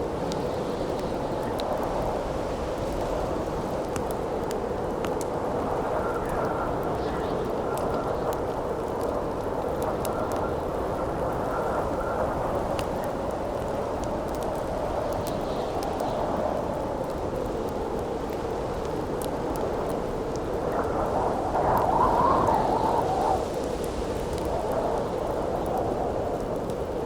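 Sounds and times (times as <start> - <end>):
campfire crackling and popping: 0.0 - 27.0
wind blowing with whistling: 0.0 - 27.0.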